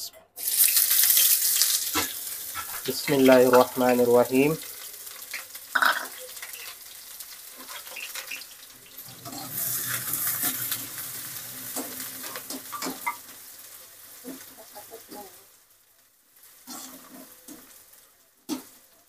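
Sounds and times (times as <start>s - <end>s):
onions sizzling in hot oil: 0.4s - 19.0s.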